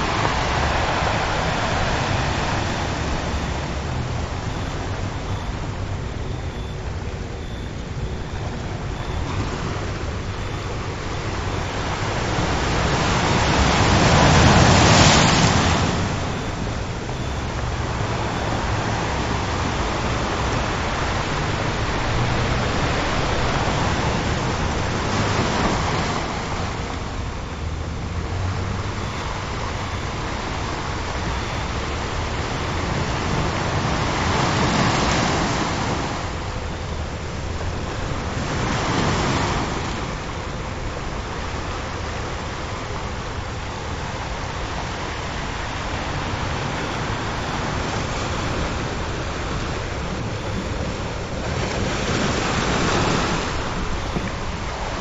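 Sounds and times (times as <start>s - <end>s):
faint steady tone: 0.0s - 55.0s
ocean surf washing: 0.0s - 55.0s.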